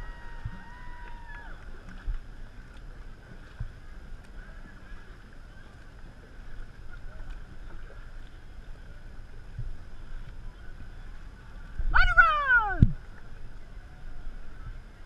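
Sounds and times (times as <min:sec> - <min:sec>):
paddles splashing in water: 0:00.0 - 0:15.0.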